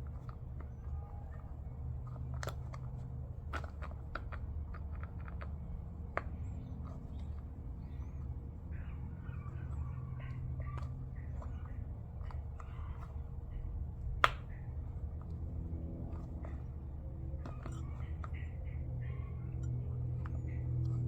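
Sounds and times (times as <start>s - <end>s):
light clicks and taps: 0.0s - 21.0s
steady low hum: 0.0s - 21.0s.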